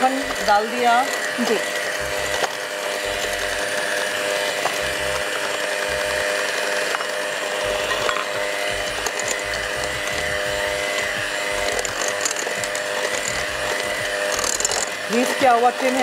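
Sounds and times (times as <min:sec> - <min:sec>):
electric hand mixer whining: 0:00.0 - 0:16.0.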